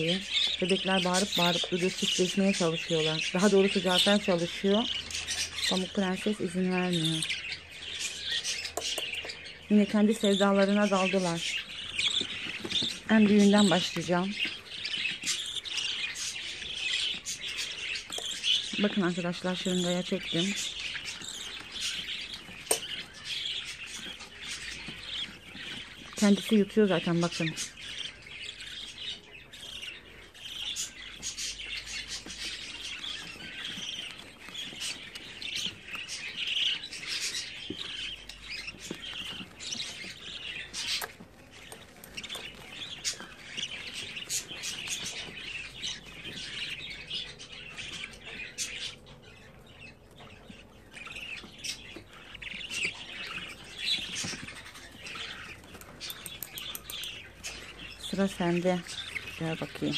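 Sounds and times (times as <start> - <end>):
bird chicks cheeping: 0.0 - 59.9.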